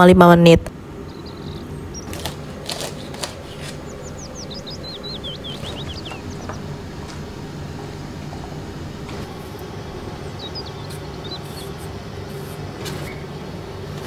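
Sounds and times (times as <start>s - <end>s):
steady low hum: 0.0s - 14.0s
small bird twittering: 1.0s - 12.4s.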